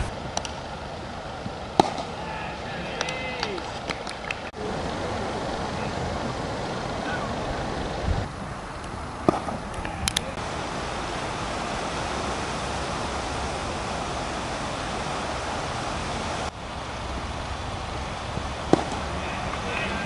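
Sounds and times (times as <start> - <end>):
wind on microphone: 0.0 - 0.4, 3.7 - 20.0.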